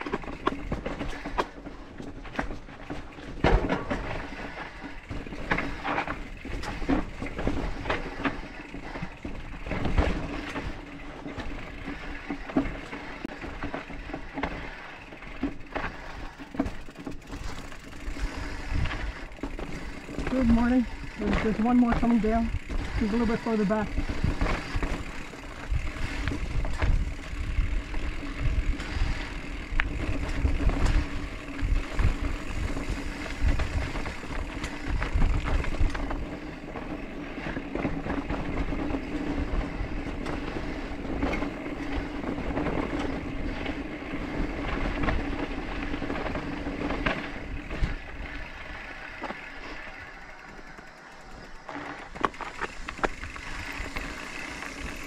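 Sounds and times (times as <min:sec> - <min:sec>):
bike clicks and rattles: 0:00.0 - 0:55.0
bike tyres rolling over dirt: 0:00.0 - 0:55.0.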